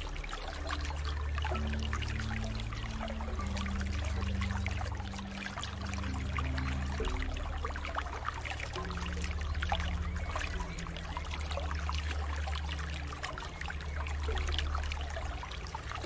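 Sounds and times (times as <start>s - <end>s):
background music drone: 0.0s - 16.0s
water trickling and dripping: 0.0s - 16.0s.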